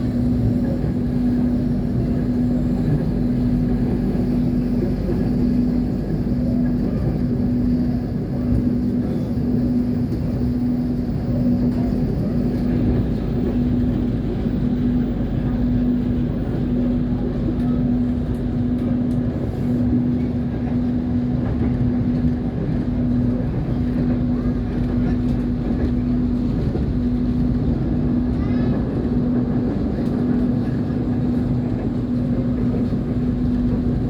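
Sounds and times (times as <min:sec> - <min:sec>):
passenger train rumbling: 0:00.0 - 0:34.0.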